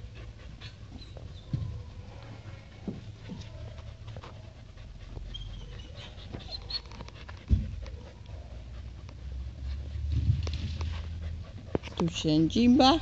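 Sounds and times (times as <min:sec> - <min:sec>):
dogs panting: 0:00.0 - 0:13.0.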